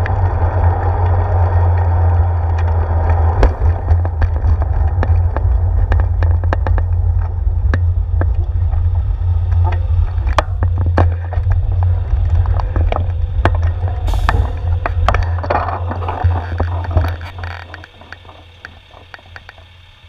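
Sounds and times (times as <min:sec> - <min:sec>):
bicycle clicks and rattles: 0:00.0 - 0:20.0
truck engine: 0:00.0 - 0:20.0
wind and road rumble: 0:00.0 - 0:20.0.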